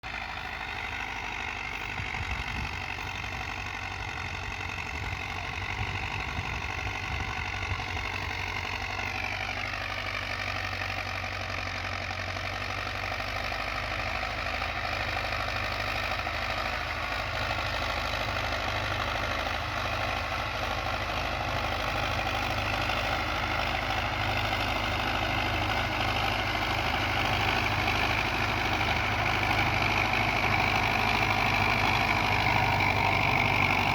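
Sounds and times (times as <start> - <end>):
tractor diesel engine under load: 0.0 - 33.9.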